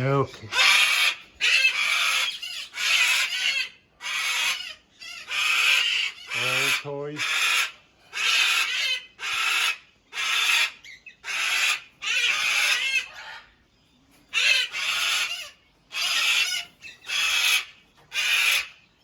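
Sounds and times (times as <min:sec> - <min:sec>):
parrot screeching: 0:00.5 - 0:13.6, 0:14.3 - 0:18.8.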